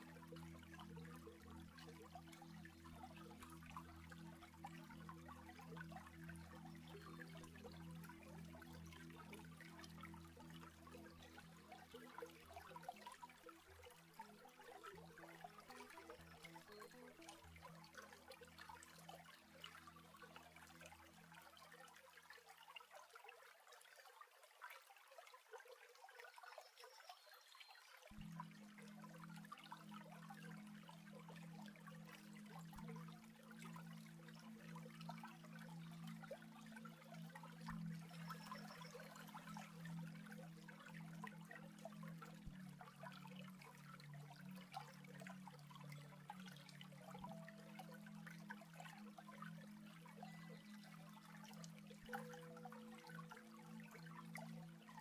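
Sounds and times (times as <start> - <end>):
stream water trickling: 0.0 - 55.0.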